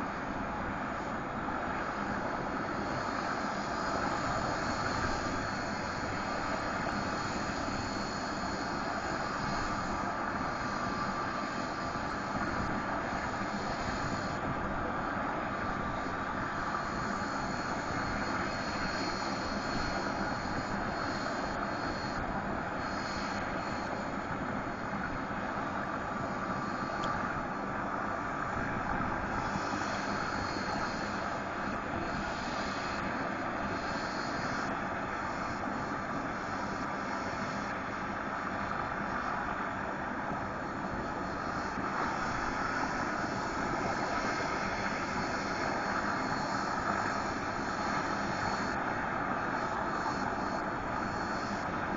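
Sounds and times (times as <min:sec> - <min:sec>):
faint high whine: 0:00.0 - 0:51.9
helicopter engine and rotor: 0:00.0 - 0:51.9.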